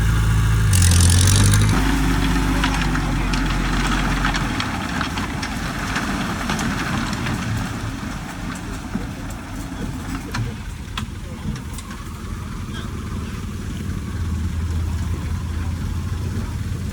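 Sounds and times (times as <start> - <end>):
diesel engine running: 0.0 - 16.9
clanks and clicks: 0.7 - 16.9.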